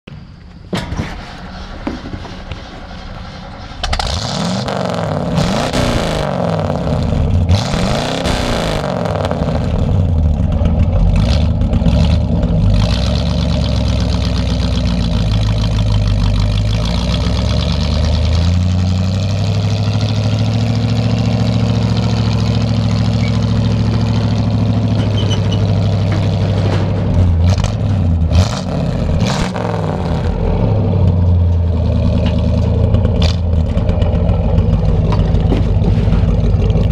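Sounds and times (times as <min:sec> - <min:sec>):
truck engine revving and idling: 0:00.1 - 0:36.9.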